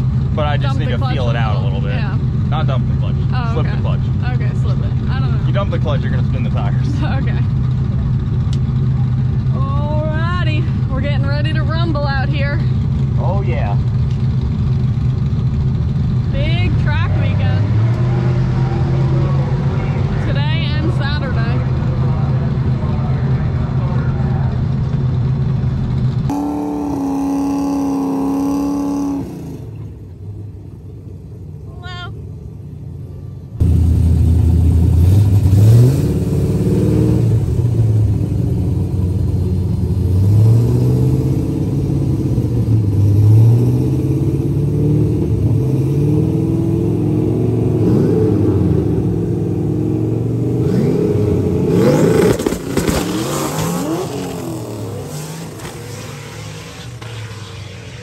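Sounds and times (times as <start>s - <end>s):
car engine revving: 0.0s - 31.1s, 32.9s - 58.0s.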